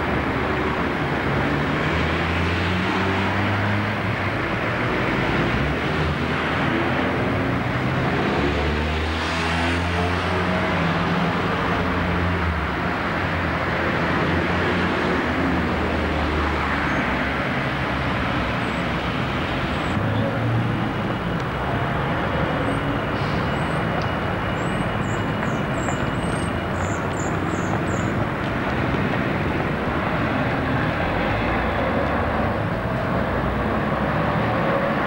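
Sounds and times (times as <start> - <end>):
cars and buses passing: 0.0 - 35.0.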